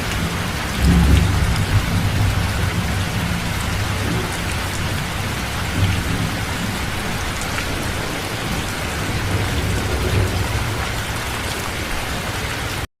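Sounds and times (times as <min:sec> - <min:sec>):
heavy rain hiss: 0:00.0 - 0:12.9.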